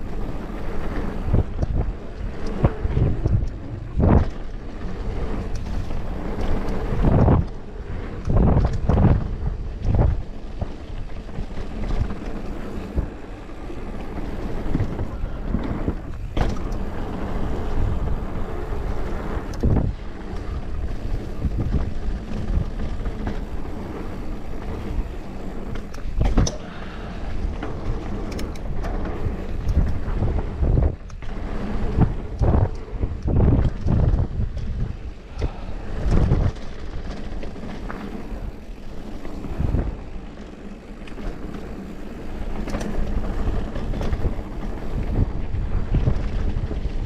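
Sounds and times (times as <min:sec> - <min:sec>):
bike knocks and rattles: 0:00.0 - 0:47.0
bike tyres rolling on dirt trail: 0:00.0 - 0:47.0
wind rushing over microphone: 0:00.0 - 0:47.0.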